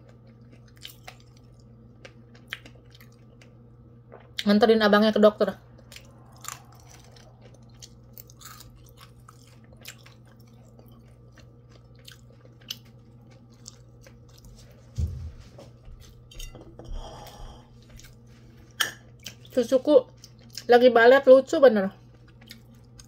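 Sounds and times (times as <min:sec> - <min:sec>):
person chewing food: 0:00.0 - 0:04.5, 0:05.7 - 0:15.2, 0:15.8 - 0:19.5, 0:20.1 - 0:20.7, 0:22.0 - 0:23.0
steady low hum: 0:00.0 - 0:23.0.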